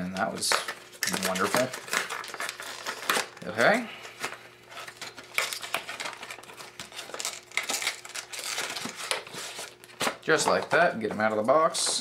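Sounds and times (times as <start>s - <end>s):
cardboard and paper rustling: 0.3s - 12.0s.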